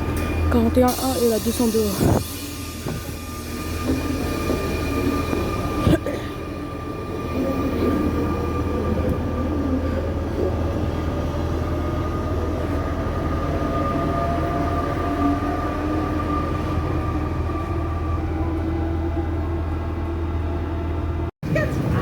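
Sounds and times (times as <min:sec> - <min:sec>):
electric train humming: 0:00.0 - 0:21.3
train low rumble: 0:00.0 - 0:22.0.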